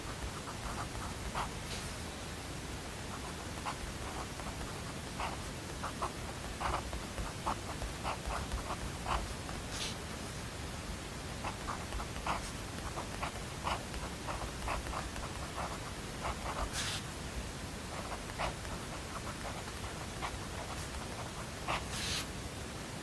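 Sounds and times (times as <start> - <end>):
white-noise hiss: 0.0 - 23.0
pen writing on paper: 0.1 - 1.8, 3.1 - 10.0, 11.4 - 17.0, 17.9 - 22.3.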